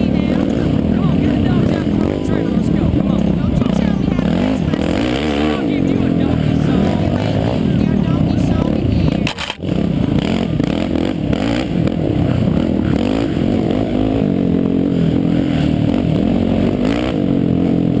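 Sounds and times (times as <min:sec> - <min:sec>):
quad engine revving: 0:00.0 - 0:18.0.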